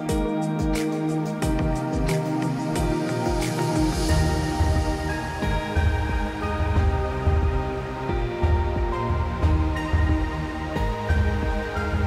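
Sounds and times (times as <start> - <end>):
sustained chords: 0.0 - 12.0
low kick drum: 0.1 - 0.8, 1.4 - 2.2, 2.8 - 12.0.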